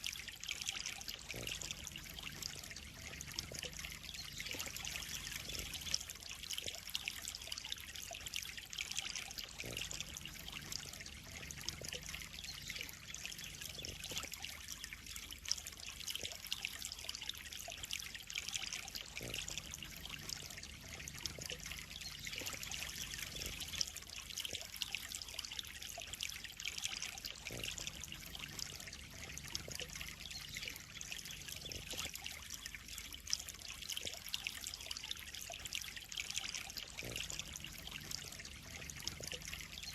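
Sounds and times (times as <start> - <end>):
pond water trickling and splashing: 0.0 - 39.9.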